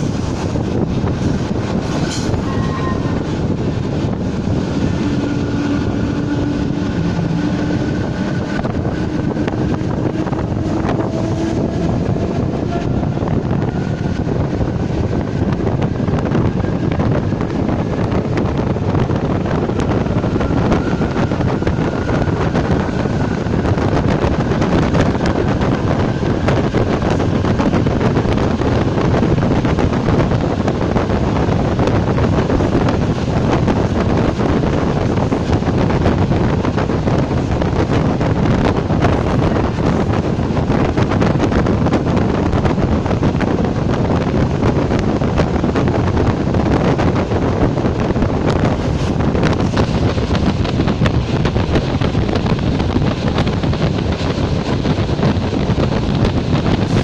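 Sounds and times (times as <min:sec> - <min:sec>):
electric train rushing at speed: 0:00.0 - 0:57.0
wind buffeting microphone: 0:00.0 - 0:57.0.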